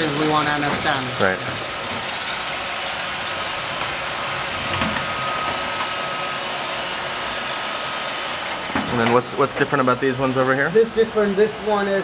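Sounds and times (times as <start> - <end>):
robot vacuum motors and brushes: 0.0 - 11.8.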